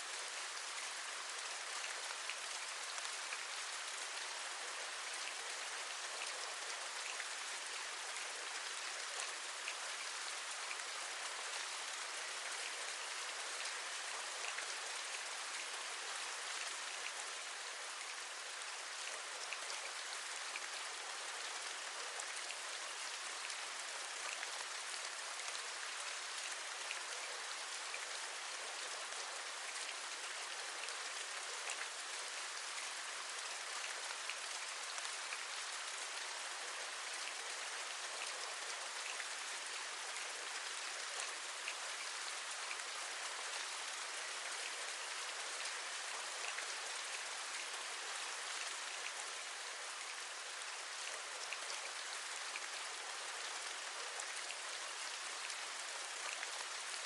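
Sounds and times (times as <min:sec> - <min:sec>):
steady rain with ticking drops: 0:00.0 - 0:57.0.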